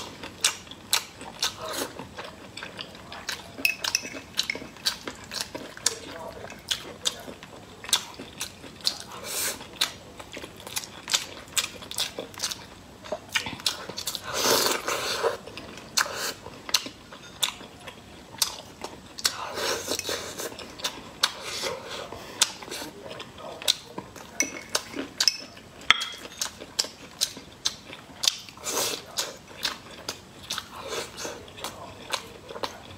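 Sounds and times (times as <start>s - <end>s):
chewing and biting food: 0.0s - 32.9s.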